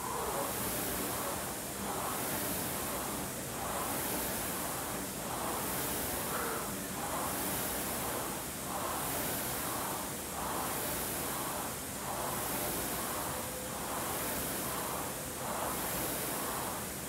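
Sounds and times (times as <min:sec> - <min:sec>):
rowing machine fan whooshing: 0:00.0 - 0:17.0.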